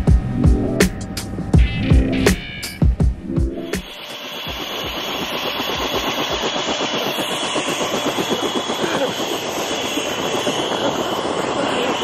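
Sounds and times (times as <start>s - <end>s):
helicopter turbine whine: 0.0s - 12.0s
rotor blades beating: 0.0s - 12.0s.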